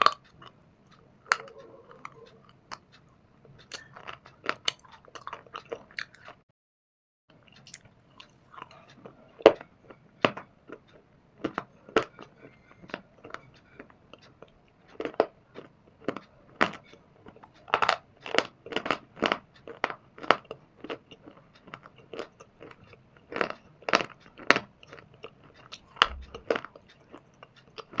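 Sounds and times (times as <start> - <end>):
stone being chewed: 0.0 - 6.4, 7.8 - 28.0.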